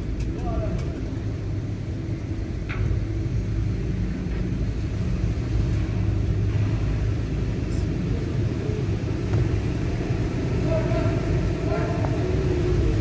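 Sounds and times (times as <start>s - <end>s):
low engine rumble inside car: 0.0s - 13.0s.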